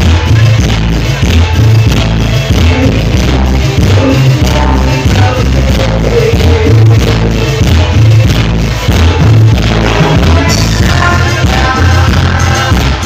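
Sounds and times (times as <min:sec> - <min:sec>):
heavy bass beat: 0:00.0 - 0:13.0
live band through loud pa: 0:00.0 - 0:13.0.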